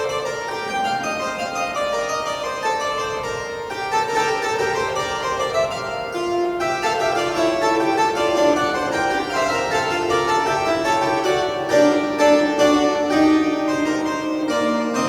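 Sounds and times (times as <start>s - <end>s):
pipe organ playing: 0.0s - 15.0s.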